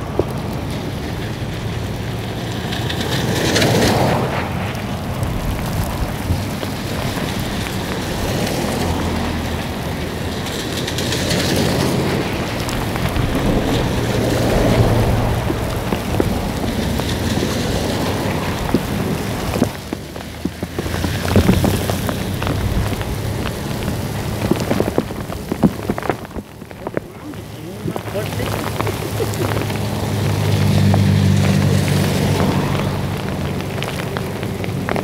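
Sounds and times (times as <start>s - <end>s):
cars passing through water: 0.0s - 35.0s
heavy rain on flooded road: 0.0s - 35.0s
wind gusts rumbling: 0.0s - 35.0s.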